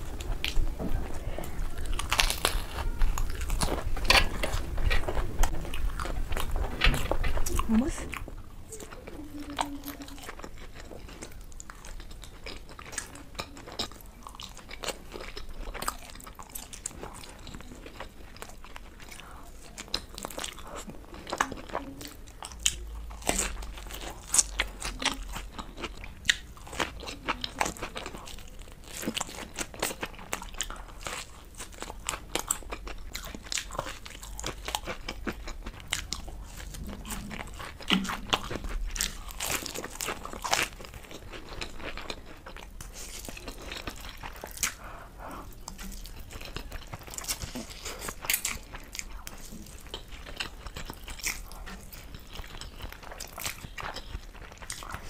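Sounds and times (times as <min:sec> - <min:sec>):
person chewing crispy snacks: 0:00.0 - 0:55.0.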